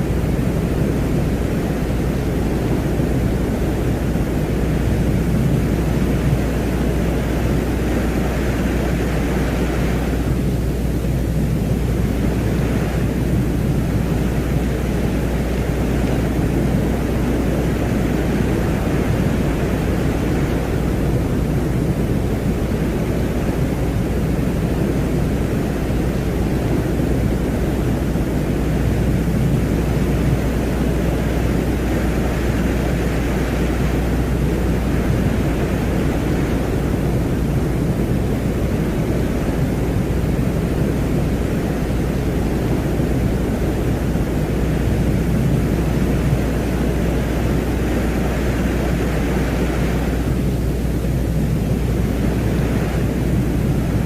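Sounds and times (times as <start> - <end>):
low rumbling noise: 0.0 - 54.0.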